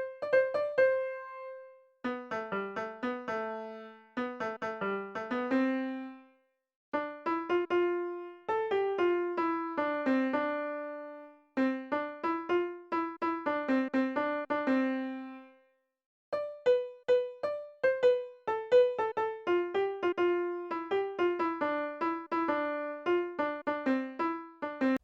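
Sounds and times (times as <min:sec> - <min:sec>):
keyboard melody: 0:00.0 - 0:06.3, 0:07.0 - 0:15.5, 0:16.3 - 0:25.0.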